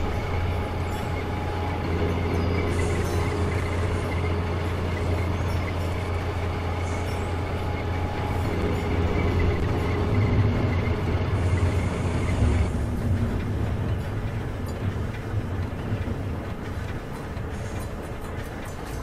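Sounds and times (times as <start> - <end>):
low mechanical rumble: 0.0 - 19.0
thin steady whine: 0.0 - 19.0.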